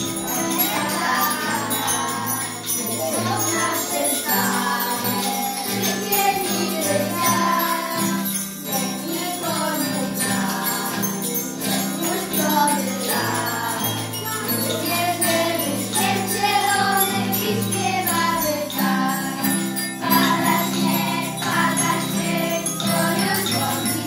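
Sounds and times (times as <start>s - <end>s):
children singing: 0.0s - 24.0s
jingle bells shaken: 0.0s - 24.0s
strummed acoustic guitar: 0.0s - 24.0s.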